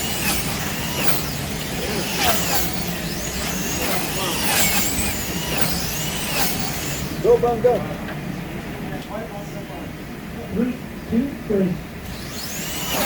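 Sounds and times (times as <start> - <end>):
slot car motors whining: 0.0 - 13.0
steady low hum: 0.0 - 13.0.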